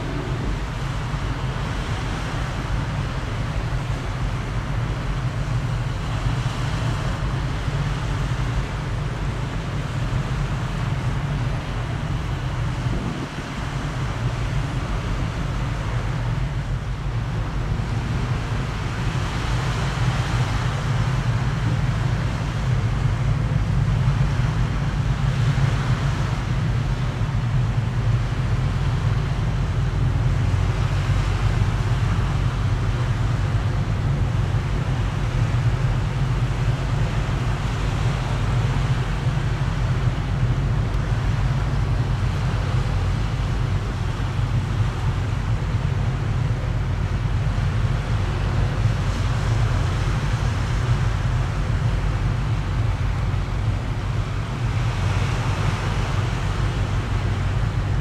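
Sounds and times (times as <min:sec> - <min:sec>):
low engine-like rumble: 0:00.0 - 0:58.0
windy hiss: 0:00.0 - 0:58.0.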